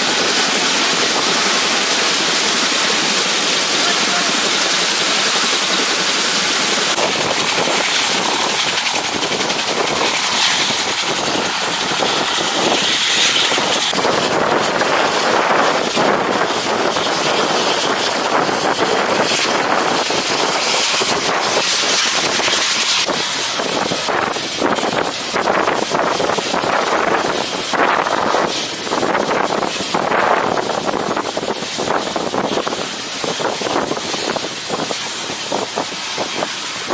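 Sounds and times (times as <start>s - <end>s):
helicopter turbines and rotor: 0.0s - 36.9s.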